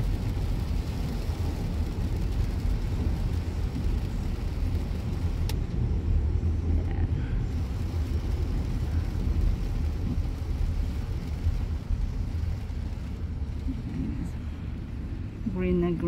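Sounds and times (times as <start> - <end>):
road and tyre noise in car: 0.0 - 16.0.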